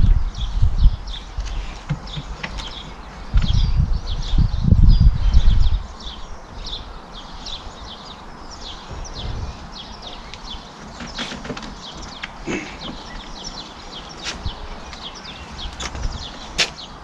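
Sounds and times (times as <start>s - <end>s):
low wind rumble on microphone: 0.0s - 17.0s
small birds chirping: 0.0s - 17.0s.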